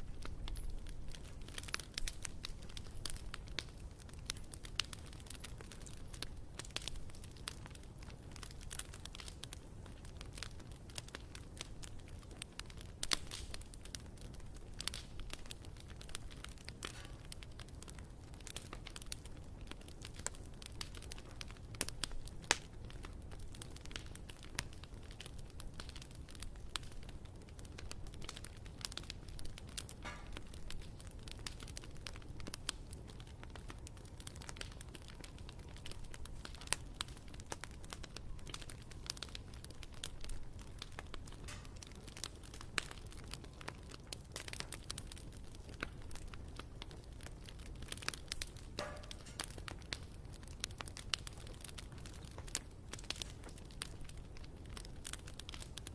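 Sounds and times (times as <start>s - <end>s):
campfire crackling and popping: 0.0s - 55.9s
low rumble of flame: 0.0s - 55.9s.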